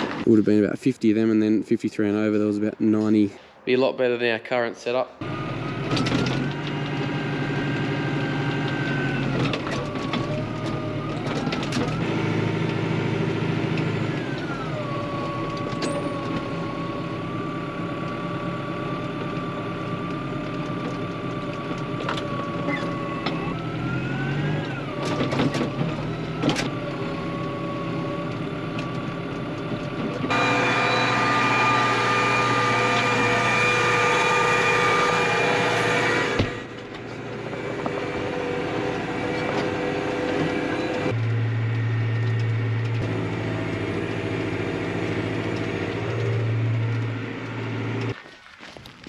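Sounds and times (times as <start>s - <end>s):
vehicle engine whining: 5.2s - 48.3s.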